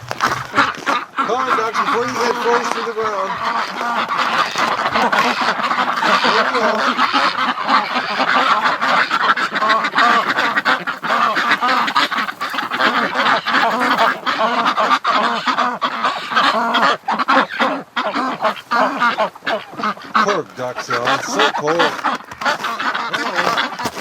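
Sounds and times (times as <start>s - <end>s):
ducks and geese quacking and honking: 0.0s - 24.0s.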